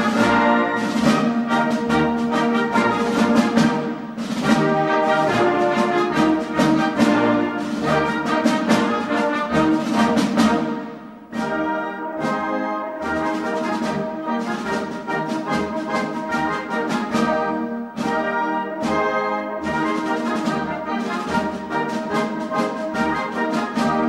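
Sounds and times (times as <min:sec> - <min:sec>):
brass march with drums: 0:00.0 - 0:24.0.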